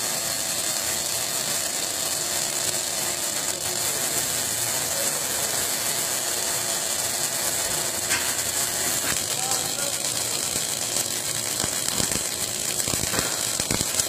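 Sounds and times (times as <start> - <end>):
welding arc crackling hiss: 0.0 - 14.0.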